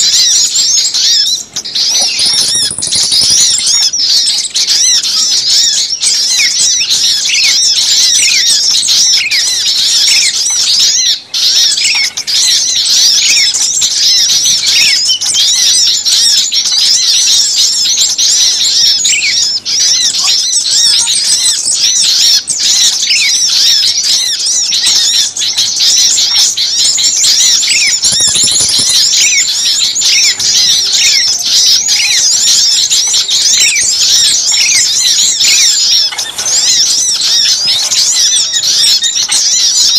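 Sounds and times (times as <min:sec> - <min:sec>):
songbirds chirping in chorus: 0:00.0 - 0:39.9.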